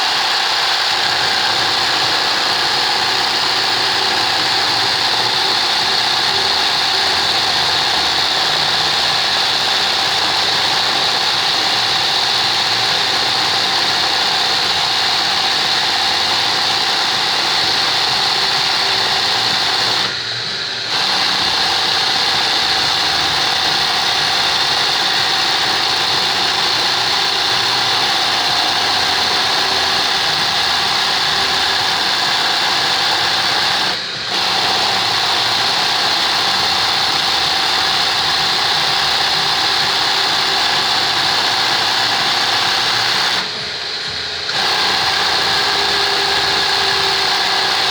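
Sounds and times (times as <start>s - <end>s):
sewing machine running: 0.0s - 47.9s.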